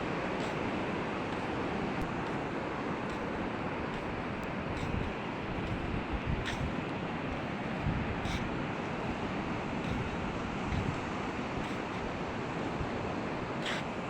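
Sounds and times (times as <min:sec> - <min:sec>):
sea surf washing on beach: 0:00.0 - 0:14.0.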